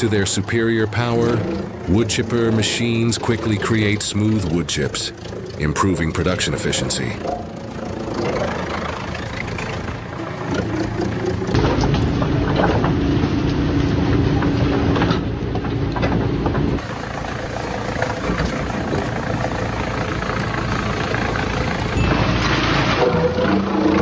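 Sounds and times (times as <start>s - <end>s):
large machine engine humming: 0.0s - 24.0s.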